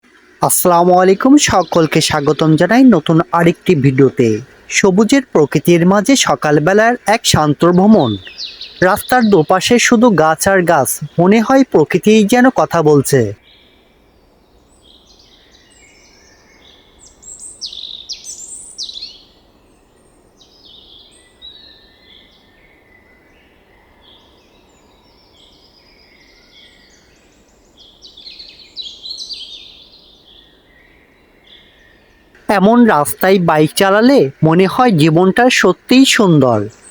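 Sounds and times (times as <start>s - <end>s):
faint steady hiss: 0.0s - 36.9s
songbirds chirping and trilling: 0.0s - 36.9s.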